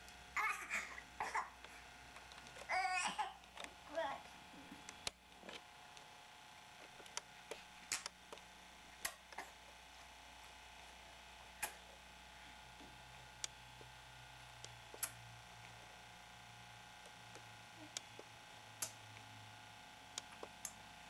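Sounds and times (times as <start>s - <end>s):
background hum and hiss: 0.0s - 21.0s.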